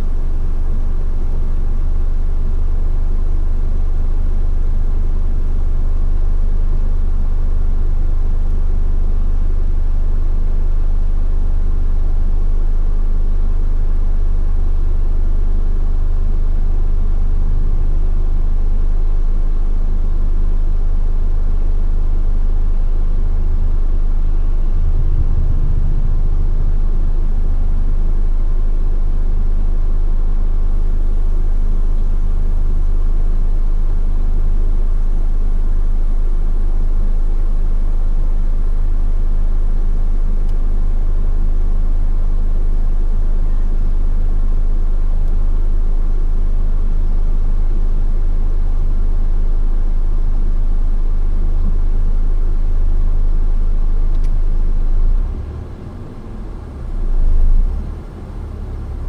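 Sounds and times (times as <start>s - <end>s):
car interior engine and road rumble: 0.0s - 59.0s.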